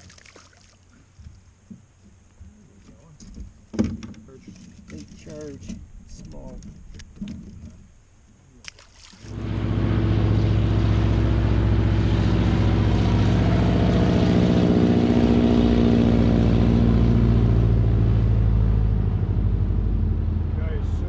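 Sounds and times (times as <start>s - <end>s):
outboard motor running: 0.8s - 21.0s.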